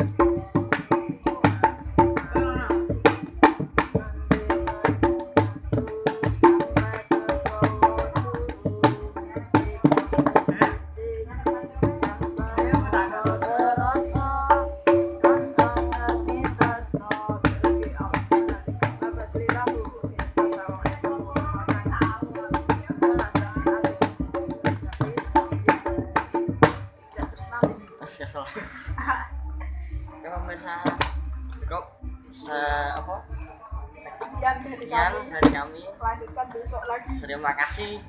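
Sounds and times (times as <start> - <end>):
hand drum played in fast rhythm: 0.0 - 28.2, 34.2 - 38.0.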